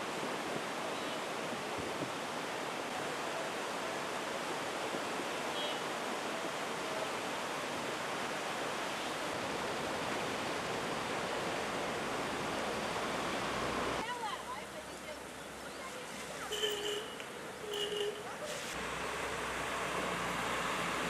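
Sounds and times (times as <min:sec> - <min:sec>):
river rushing roar: 0:00.0 - 0:15.6, 0:16.6 - 0:21.0.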